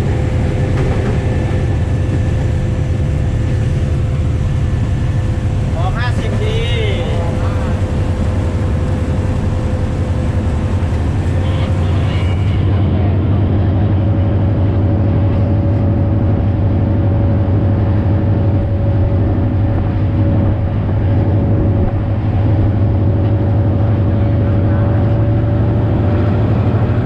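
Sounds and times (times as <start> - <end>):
diesel locomotive drone: 0.0 - 27.0.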